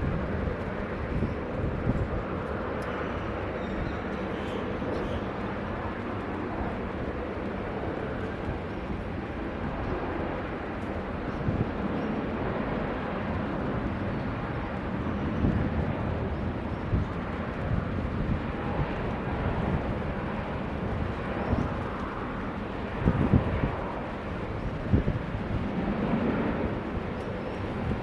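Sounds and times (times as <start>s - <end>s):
jet engines rumbling: 0.0s - 28.0s
wind buffeting microphone: 0.0s - 28.0s.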